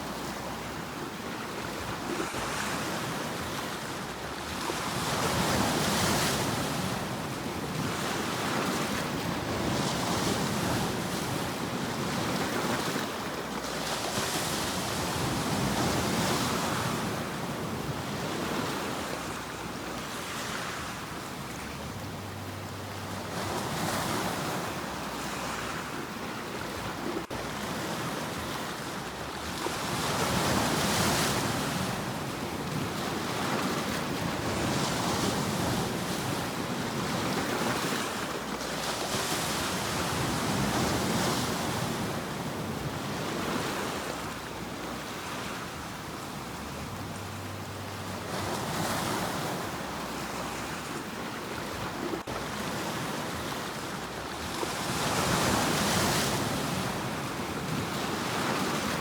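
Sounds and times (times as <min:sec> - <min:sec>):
sea waves surging and washing: 0:00.0 - 0:59.0.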